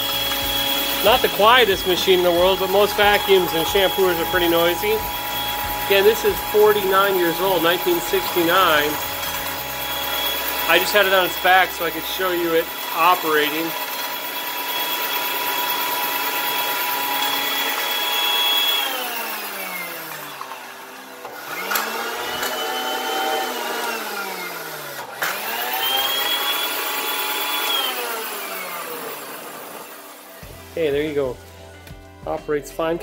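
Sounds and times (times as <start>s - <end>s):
floor scrubber motor whining: 0.0s - 30.9s.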